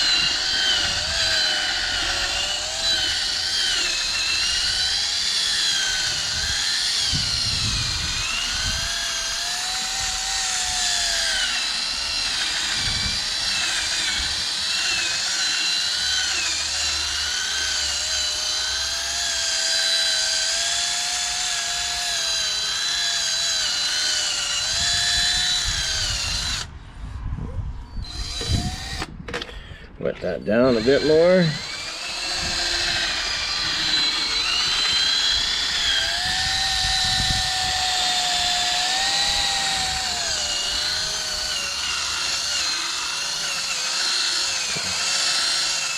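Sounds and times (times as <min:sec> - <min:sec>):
power drill motor whine: 0:00.0 - 0:26.8, 0:27.9 - 0:45.9.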